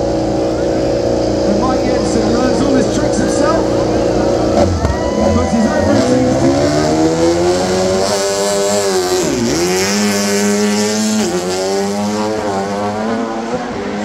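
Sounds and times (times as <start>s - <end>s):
motorcycle engine revving hard: 0.0s - 14.0s.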